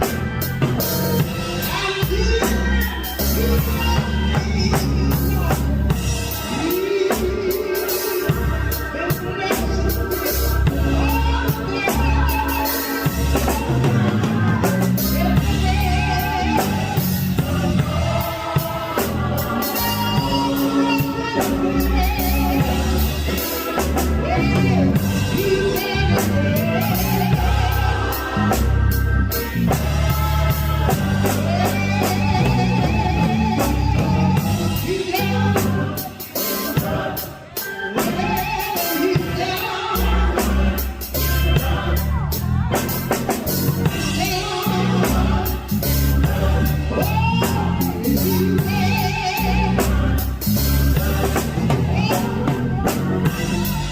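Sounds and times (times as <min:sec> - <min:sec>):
bass: 0:00.0 - 0:53.9
choir singing: 0:00.0 - 0:53.9
drum kit: 0:00.0 - 0:53.9.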